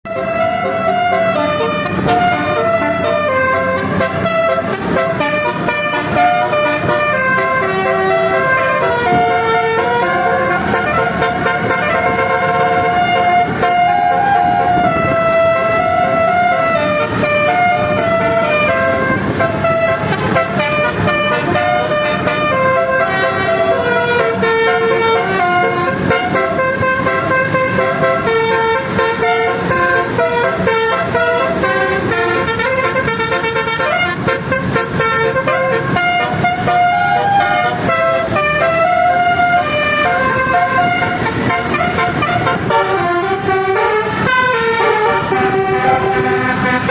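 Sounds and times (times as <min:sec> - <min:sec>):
bus musical horn playing a tune: 0:00.0 - 0:46.9
road noise: 0:00.0 - 0:46.9
engine rumble: 0:00.1 - 0:46.9.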